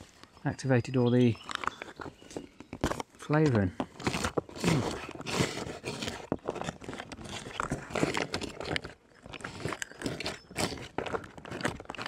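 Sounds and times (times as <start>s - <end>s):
plastic bag rustling: 1.4s - 12.0s
utensil squelching and scraping food: 1.4s - 12.0s.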